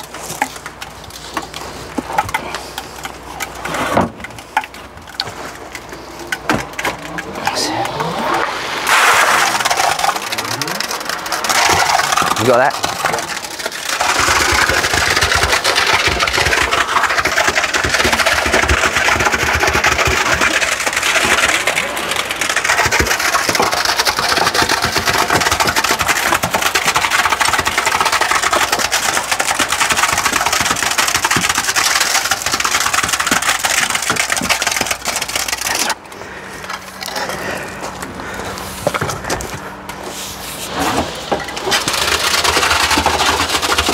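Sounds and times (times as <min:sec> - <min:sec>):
concrete pump running: 0:00.0 - 0:43.9.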